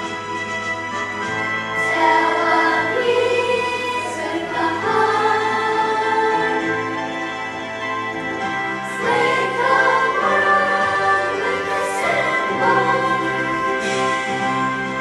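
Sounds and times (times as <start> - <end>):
choral accompaniment: 0.0 - 15.0
choir singing sustained notes: 1.6 - 15.0.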